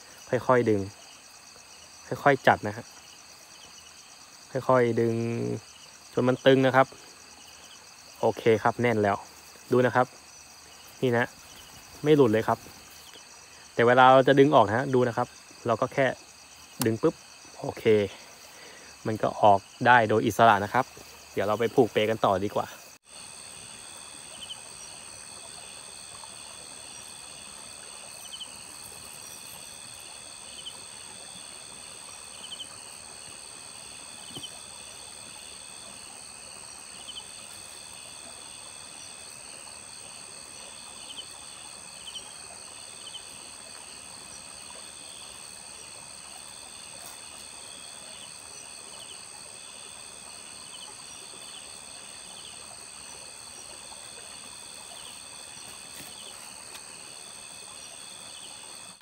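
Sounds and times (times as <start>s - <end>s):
crickets trilling: 0.0s - 59.0s
pulsed insect chirping: 0.0s - 59.0s.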